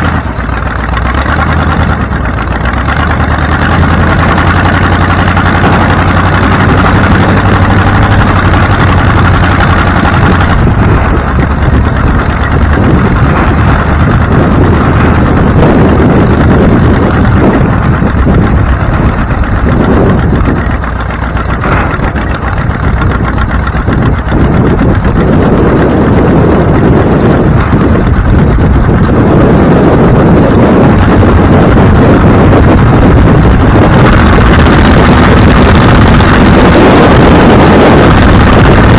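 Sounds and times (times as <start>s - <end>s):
vehicle engine running loudly: 0.0s - 38.9s.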